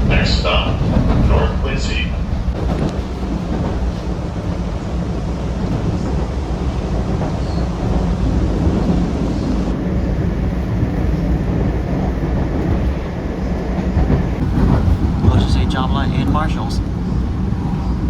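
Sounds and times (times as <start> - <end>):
subway car wheels rumbling: 0.0 - 18.0.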